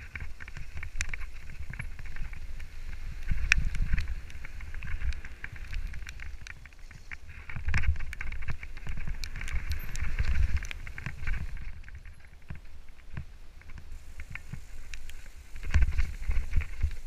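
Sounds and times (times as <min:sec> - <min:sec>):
bike rattling and clicking: 0:00.0 - 0:17.0
tyres crunching over stones: 0:00.0 - 0:17.0
wind rumble on microphone: 0:00.0 - 0:17.0.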